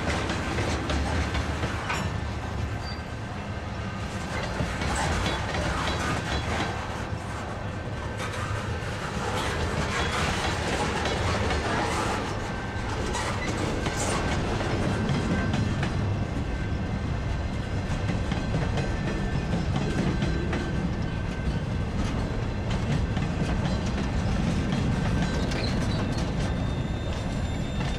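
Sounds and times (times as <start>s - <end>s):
freight train wheels rumbling: 0.0s - 27.9s.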